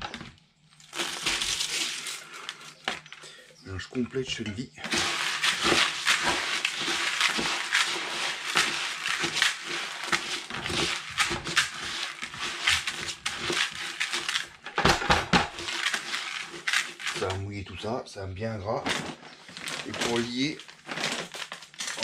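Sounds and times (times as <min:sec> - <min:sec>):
hand stirring pellets in bucket: 0:00.8 - 0:14.8, 0:15.4 - 0:18.0, 0:18.7 - 0:22.0.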